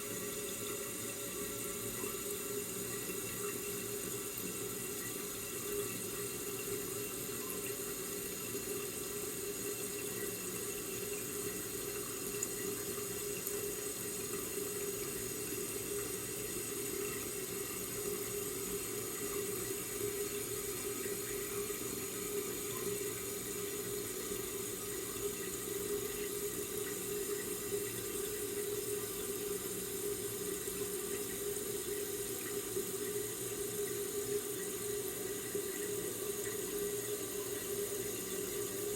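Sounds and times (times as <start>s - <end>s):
toilet tank refilling: 0.0s - 38.9s.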